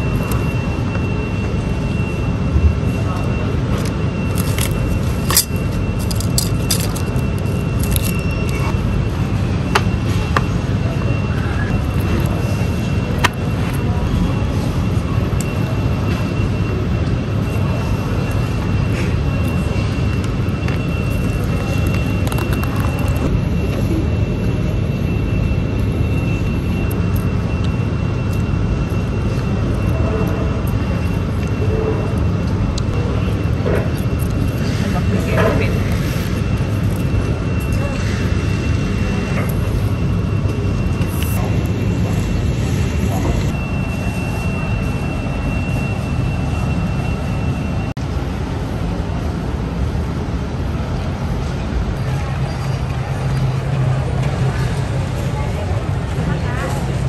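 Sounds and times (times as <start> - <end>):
high constant whine: 0.0 - 57.0
jet airliner cabin drone: 0.0 - 57.0.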